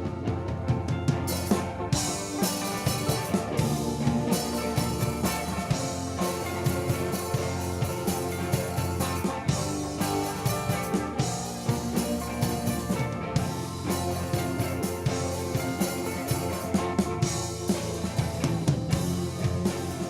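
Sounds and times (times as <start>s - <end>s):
drum kit: 0.0s - 20.0s
electric guitar: 0.0s - 20.0s.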